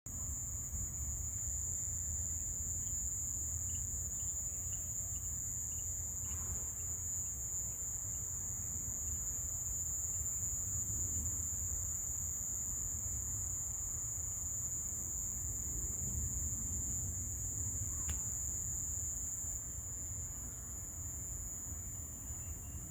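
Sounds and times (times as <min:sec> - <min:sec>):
insects shrill drone: 0:00.2 - 0:22.9.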